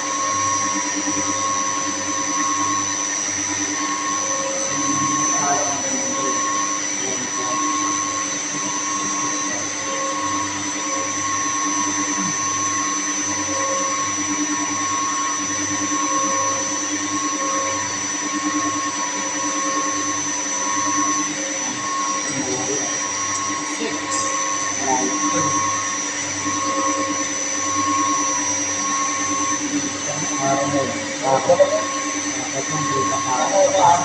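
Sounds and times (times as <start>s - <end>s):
pulsing low hum: 0.0s - 34.0s
pump motors droning with whine: 0.0s - 34.0s.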